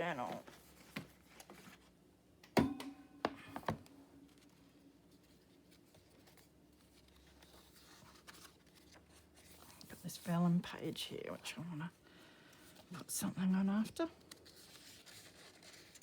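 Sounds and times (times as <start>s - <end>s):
faint handling of items: 0.0s - 2.1s, 3.2s - 16.0s.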